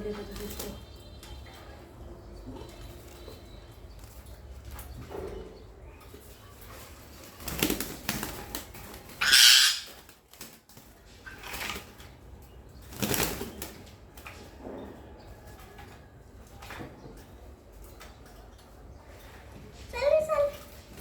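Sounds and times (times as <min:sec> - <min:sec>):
birds flapping wings: 0:00.0 - 0:05.4, 0:06.1 - 0:18.6.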